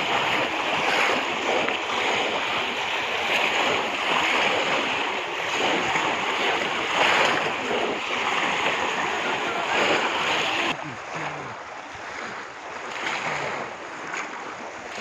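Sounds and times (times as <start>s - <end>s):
people wading through water: 0.0s - 15.0s.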